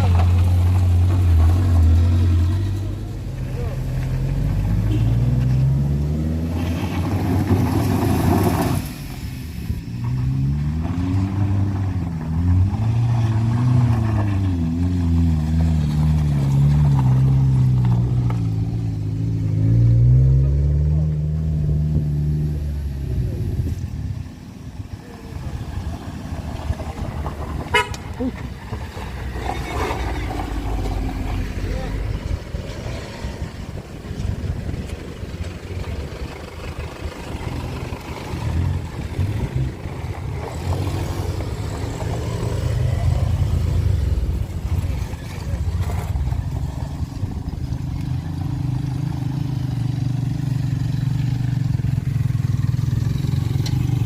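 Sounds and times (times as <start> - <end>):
vehicle engine straining: 0.0 - 54.0.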